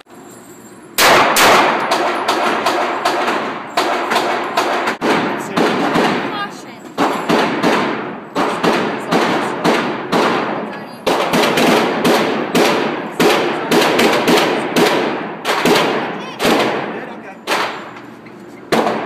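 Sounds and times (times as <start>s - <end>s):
handgun shots: 1.0s - 6.3s, 7.0s - 16.9s, 17.5s - 18.0s, 18.7s - 19.0s.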